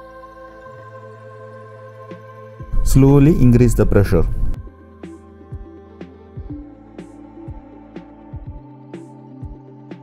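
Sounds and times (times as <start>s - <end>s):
music with sustained tones: 0.0s - 10.0s.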